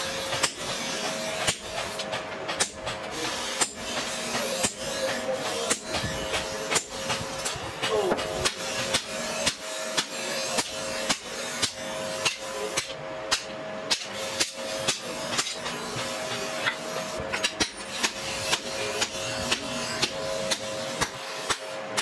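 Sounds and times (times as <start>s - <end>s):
hammer striking steel on anvil: 0.2s - 22.0s.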